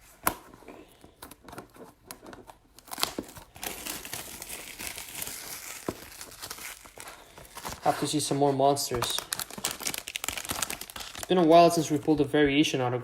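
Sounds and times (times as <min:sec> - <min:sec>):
plastic wrapping tearing and crinkling: 0:01.2 - 0:12.2.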